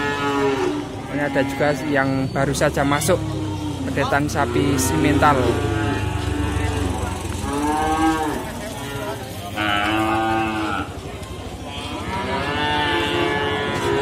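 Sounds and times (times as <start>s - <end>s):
young cattle mooing: 0.0s - 2.2s, 3.3s - 11.0s, 11.7s - 14.0s.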